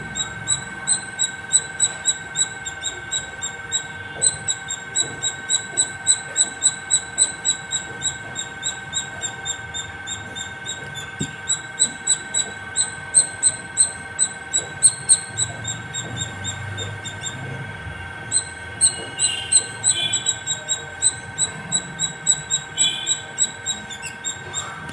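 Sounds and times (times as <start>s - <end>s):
squirrel chirping: 0.0s - 24.9s.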